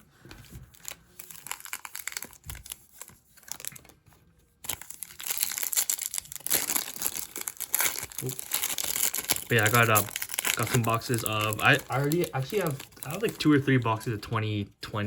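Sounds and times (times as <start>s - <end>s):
foil wrapper crinkling and tearing: 0.7s - 14.1s.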